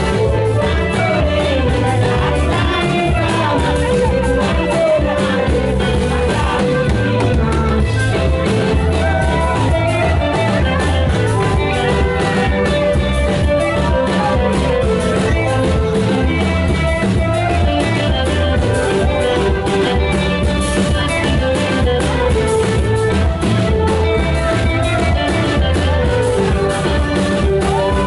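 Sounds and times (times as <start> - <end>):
loud amplified music: 0.0 - 28.0
melodic instruments: 0.0 - 28.0
steady drum beat: 0.0 - 28.0.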